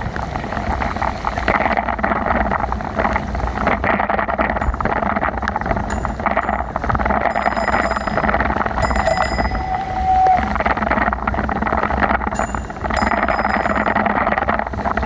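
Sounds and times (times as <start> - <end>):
steady whine: 0.0 - 15.0
wind buffeting microphone: 0.0 - 15.0.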